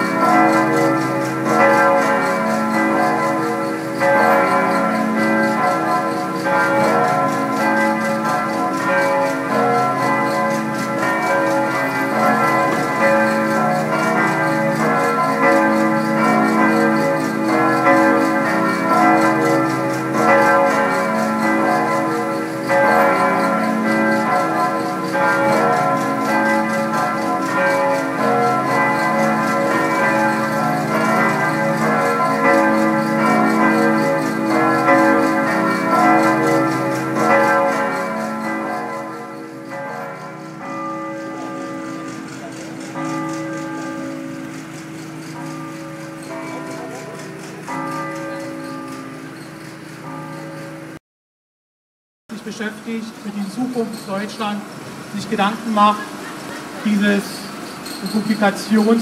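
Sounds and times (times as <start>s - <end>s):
church bells pealing: 0.0s - 51.0s, 52.3s - 59.0s.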